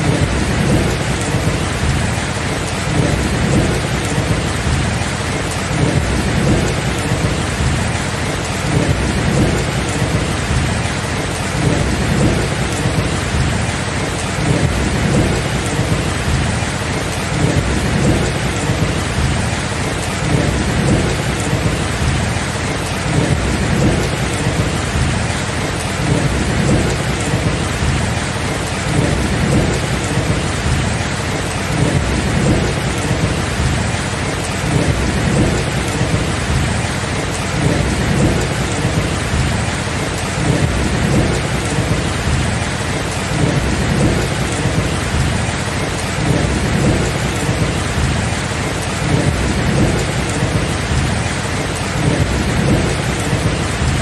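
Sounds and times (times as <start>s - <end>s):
low rumble of thunder: 0.0s - 54.0s
steady rain: 0.0s - 54.0s.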